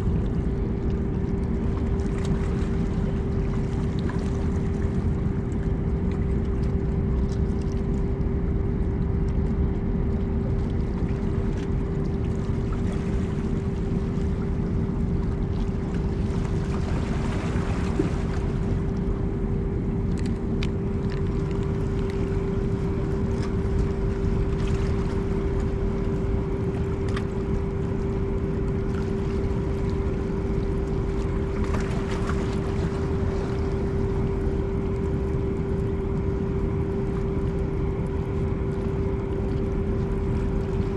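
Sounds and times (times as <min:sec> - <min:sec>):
ship engines droning: 0:00.0 - 0:40.9.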